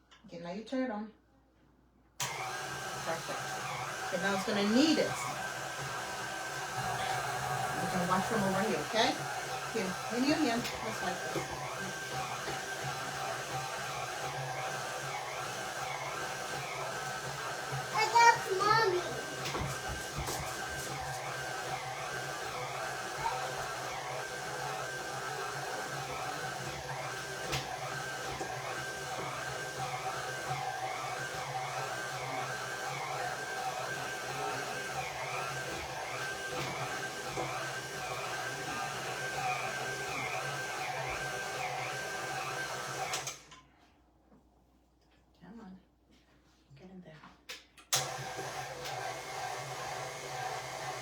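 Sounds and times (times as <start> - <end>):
stand mixer kneading dough: 2.2 - 43.5, 48.0 - 51.0.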